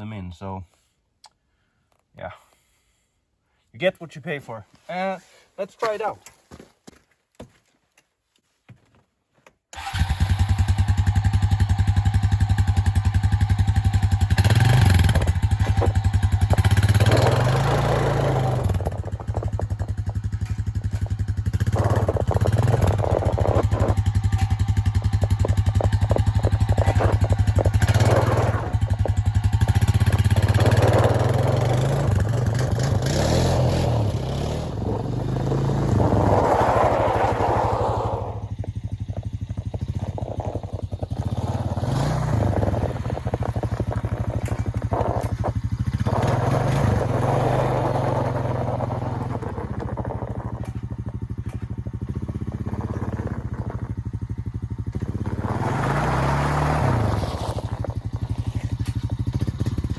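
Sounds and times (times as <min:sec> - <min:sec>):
atv engine revving: 0:09.8 - 0:59.9.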